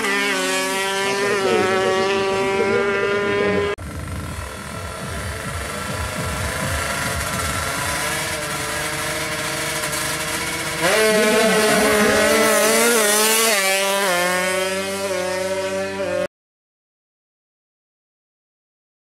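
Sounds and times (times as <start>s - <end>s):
two-stroke engine revving: 0.0s - 16.3s.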